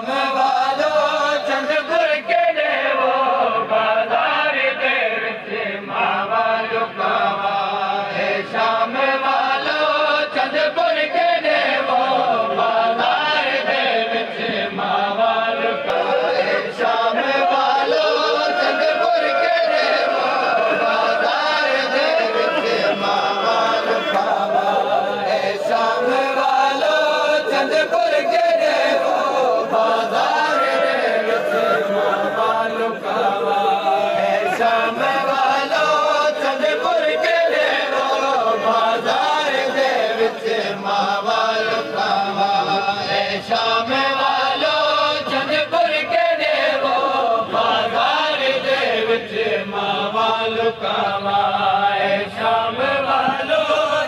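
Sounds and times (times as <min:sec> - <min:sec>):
lead reciter singing: 0:00.0 - 0:54.0
men chanting a lament: 0:00.0 - 0:54.0.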